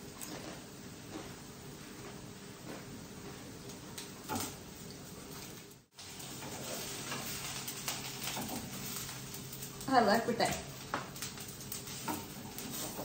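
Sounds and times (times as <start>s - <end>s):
roti sizzling in a pan: 0.0s - 13.0s.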